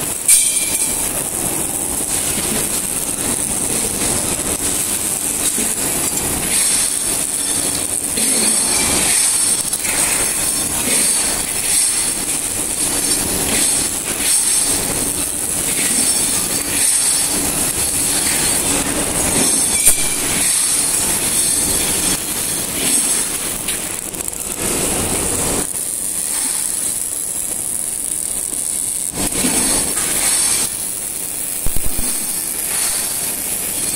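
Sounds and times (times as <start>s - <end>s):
workshop noise: 0.0s - 27.3s, 31.5s - 33.9s
steady high whine: 0.0s - 33.9s
welding arc hiss and crackle: 0.0s - 33.9s.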